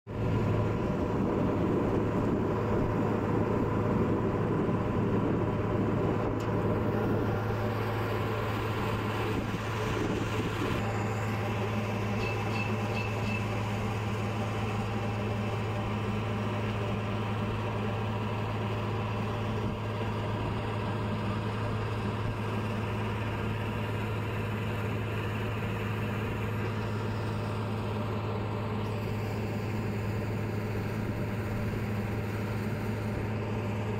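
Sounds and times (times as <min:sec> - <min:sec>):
boat diesel engine droning: 0:00.1 - 0:33.9.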